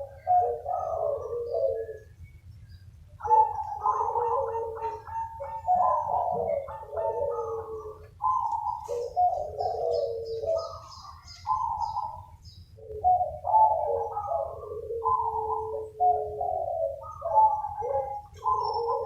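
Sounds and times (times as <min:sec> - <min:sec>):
small bird chirping: 0:00.0 - 0:16.2
doves cooing: 0:00.0 - 0:19.0.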